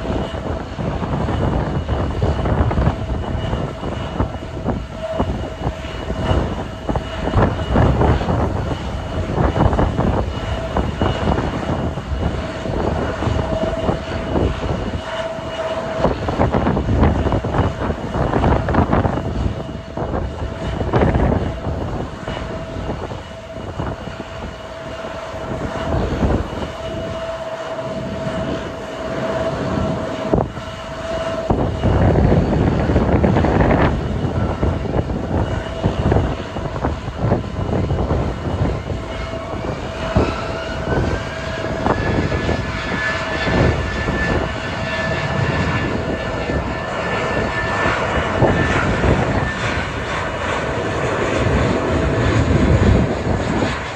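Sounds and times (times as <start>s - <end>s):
jet engines whining: 0.0s - 53.9s
wind buffeting microphone: 0.0s - 53.9s.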